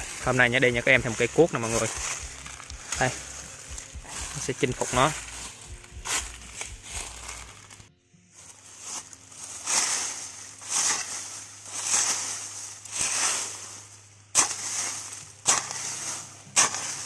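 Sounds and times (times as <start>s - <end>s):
hoe chopping into soil: 0.0s - 7.7s, 9.6s - 13.6s, 14.3s - 17.0s
hoe scraping leaf litter: 0.0s - 17.0s.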